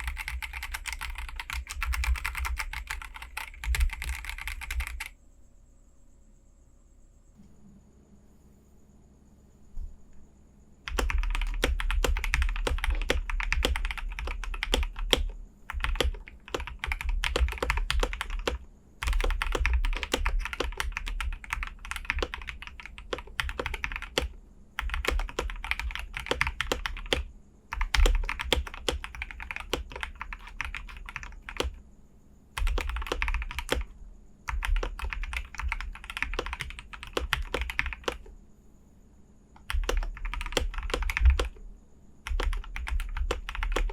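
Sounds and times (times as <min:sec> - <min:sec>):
fast typing on mechanical keyboard: 0:00.0 - 0:05.2, 0:10.9 - 0:31.8, 0:32.6 - 0:38.3, 0:39.6 - 0:41.6, 0:42.2 - 0:43.9.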